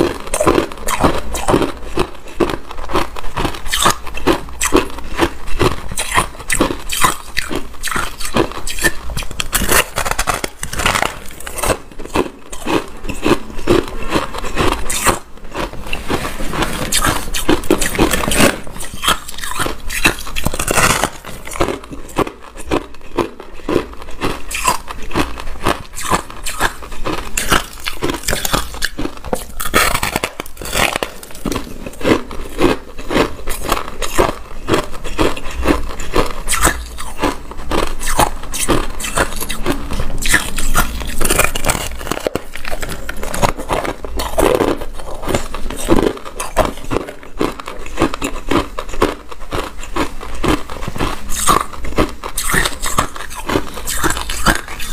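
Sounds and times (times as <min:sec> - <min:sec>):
person chewing crunchy ice: 0:00.0 - 0:54.9.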